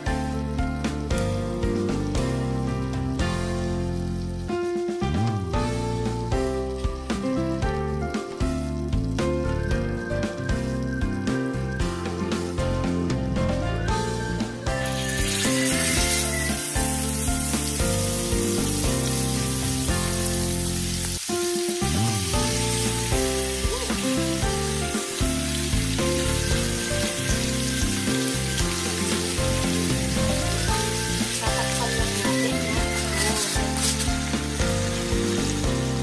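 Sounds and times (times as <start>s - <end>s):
steaks sizzling in skillet: 0.0s - 13.0s, 13.8s - 36.0s
background music: 0.0s - 36.0s.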